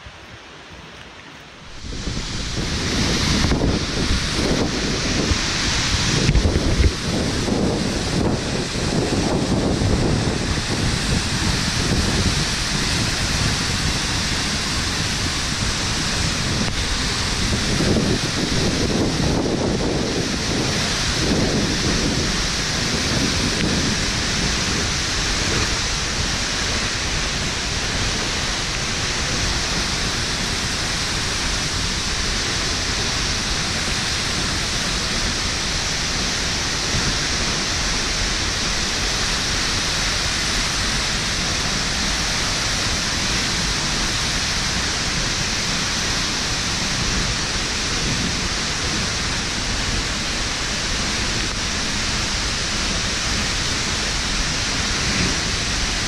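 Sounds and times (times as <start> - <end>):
low water rumble: 0.0 - 56.0
waterfall hissing: 0.0 - 56.0.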